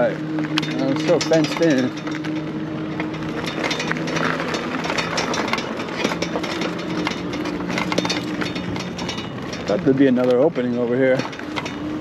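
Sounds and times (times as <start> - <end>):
clicks and rattles: 0.0 - 12.0
engine idling hum: 0.0 - 12.0.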